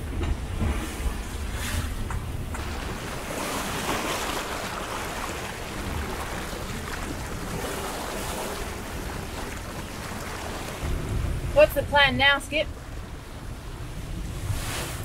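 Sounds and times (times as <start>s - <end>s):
water splashing along boat hull: 0.0s - 15.0s
wind buffeting microphone: 0.0s - 15.0s.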